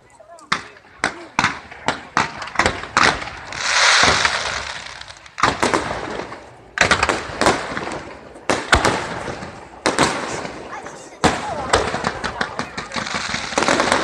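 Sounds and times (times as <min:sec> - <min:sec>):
fireworks crackling: 0:00.0 - 0:14.0
fireworks bangs: 0:00.5 - 0:14.0.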